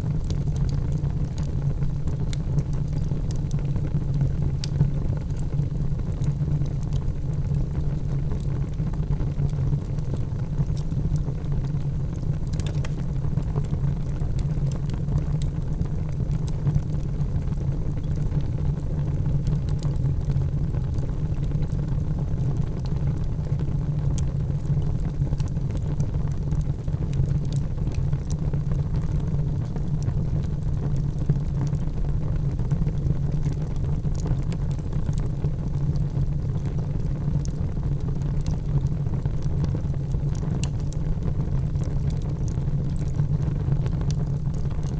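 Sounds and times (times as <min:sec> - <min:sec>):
fire crackling and popping: 0:00.0 - 0:44.9
fire rumbling: 0:00.0 - 0:44.9.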